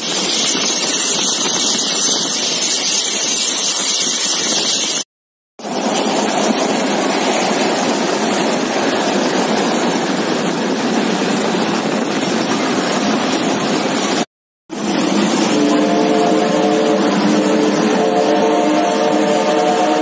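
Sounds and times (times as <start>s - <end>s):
steam train rushing past: 0.0s - 5.0s, 5.6s - 20.0s.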